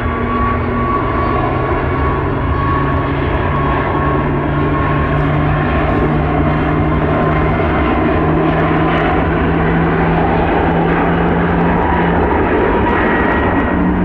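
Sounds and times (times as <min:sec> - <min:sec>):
airliner engines running: 0:00.0 - 0:14.0
low hum: 0:00.0 - 0:14.0.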